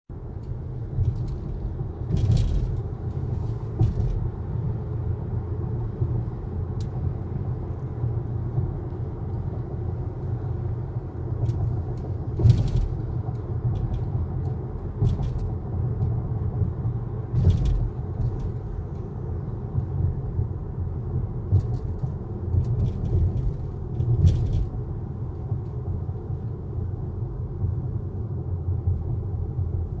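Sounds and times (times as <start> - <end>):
car road rumble: 0.1 - 30.0.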